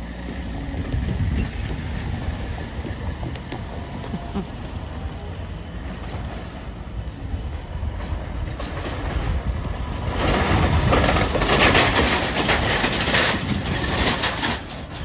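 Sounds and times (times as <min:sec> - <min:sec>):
trailer rattling over rails: 0:00.0 - 0:15.0
van engine running low: 0:00.0 - 0:15.0.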